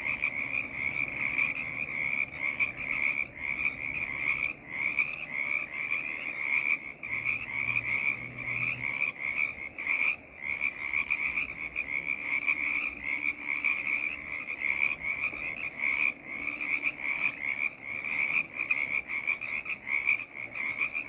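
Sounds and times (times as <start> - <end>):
chorus of frogs calling: 0.0 - 21.0.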